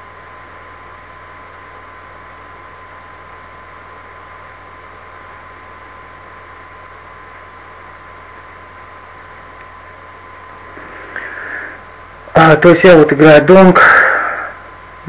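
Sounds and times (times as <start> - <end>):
low electrical hum: 0.0 - 15.0
microphone background hiss: 0.0 - 15.0
thin high whine: 0.0 - 15.0.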